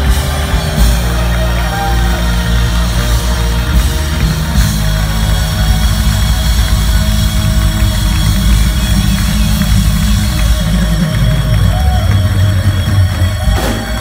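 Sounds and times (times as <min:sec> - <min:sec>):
rock band playing loudly: 0:00.0 - 0:14.0.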